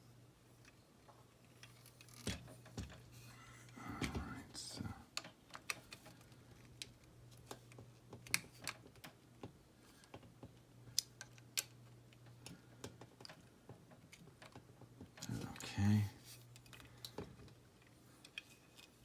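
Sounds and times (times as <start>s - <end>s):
faint low hum: 0.0s - 19.0s
small plastic parts clicking: 0.6s - 3.0s, 5.1s - 15.7s, 16.3s - 19.0s.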